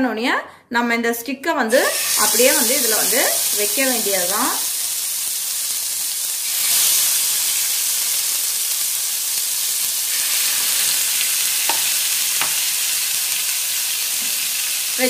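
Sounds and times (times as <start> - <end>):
chicken sizzling in a frying pan: 1.7 - 15.0.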